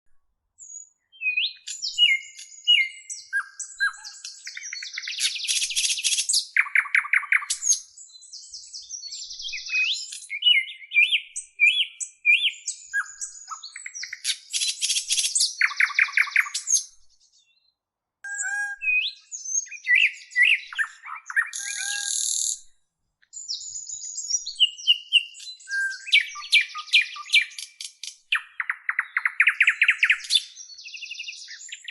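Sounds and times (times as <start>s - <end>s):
songbird singing: 0.1s - 31.9s.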